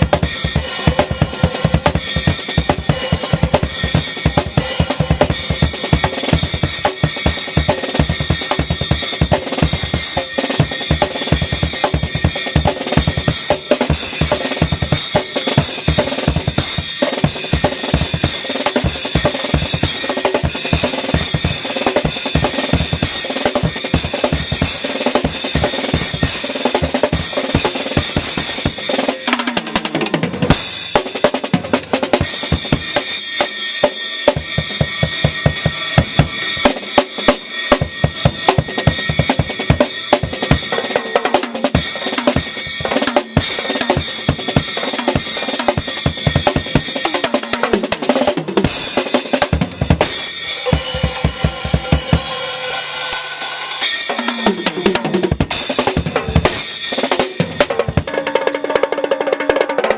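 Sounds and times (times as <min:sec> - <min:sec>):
cymbals crashing: 0:00.0 - 0:29.4, 0:30.5 - 0:47.5, 0:48.6 - 0:58.1.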